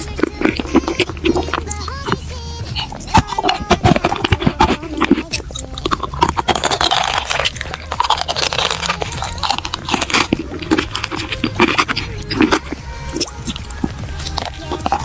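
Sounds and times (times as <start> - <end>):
crunching candy: 0.0 - 15.0
wet mouth clicks: 0.0 - 15.0.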